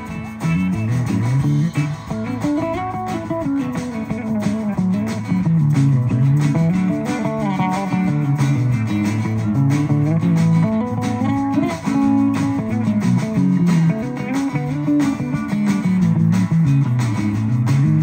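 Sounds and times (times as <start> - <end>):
bass and rhythm accompaniment: 0.0 - 18.0
guitar lead line: 0.0 - 18.0.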